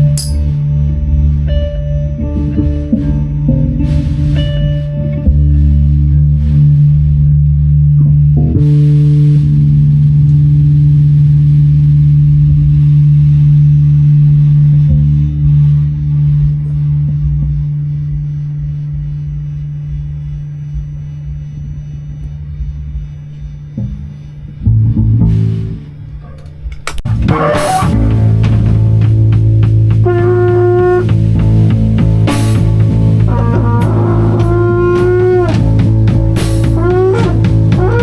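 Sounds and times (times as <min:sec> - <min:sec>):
guitar and bass sustained chord: 0:00.0 - 0:26.2, 0:27.0 - 0:38.0.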